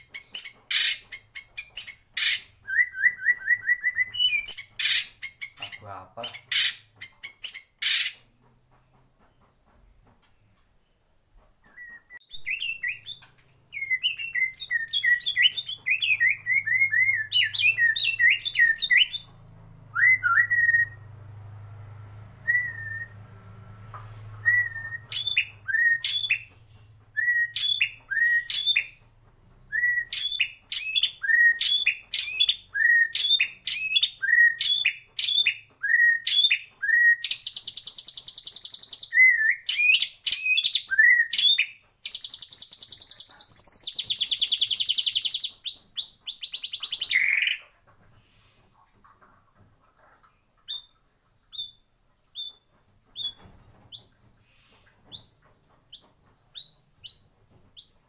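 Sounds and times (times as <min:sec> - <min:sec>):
bird singing: 0:00.0 - 0:48.4, 0:50.3 - 0:58.0.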